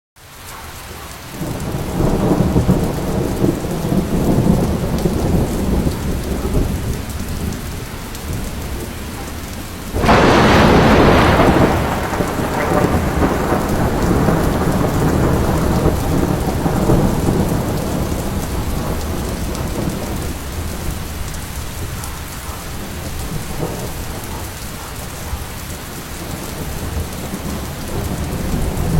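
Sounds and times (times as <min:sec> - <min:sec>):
heavy rain falling: 0:00.2 - 0:28.9
low rolling thunder: 0:01.3 - 0:28.9
loud thunderclap: 0:01.4 - 0:28.9.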